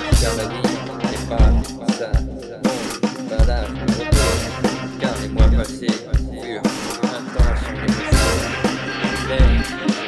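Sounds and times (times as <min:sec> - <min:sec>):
music with kick drum and bass: 0:00.0 - 0:10.0.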